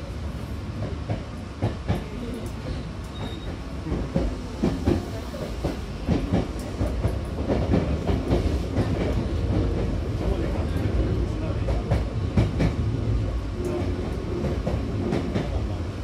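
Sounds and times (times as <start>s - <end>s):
train low rumble: 0.0s - 16.0s
train wheel clacks and knocks: 0.8s - 2.4s, 3.1s - 13.0s, 13.6s - 15.8s.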